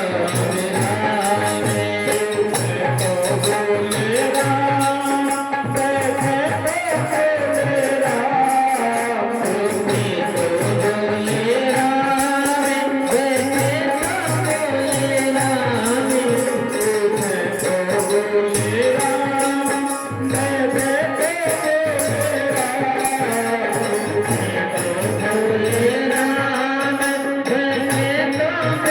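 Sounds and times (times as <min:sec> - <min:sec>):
drum steady beat: 0:00.0 - 0:28.9
jingling hand percussion: 0:00.0 - 0:28.9.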